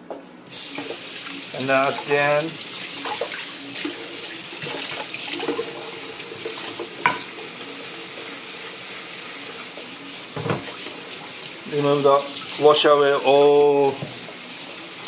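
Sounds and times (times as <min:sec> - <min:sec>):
tap water running into sink: 0:00.6 - 0:15.0.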